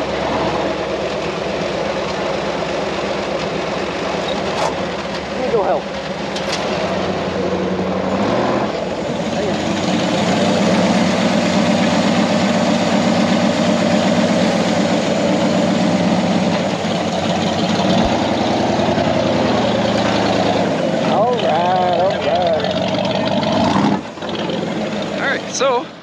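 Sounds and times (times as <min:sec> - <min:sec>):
engine running at low speed: 0:00.0 - 0:26.0.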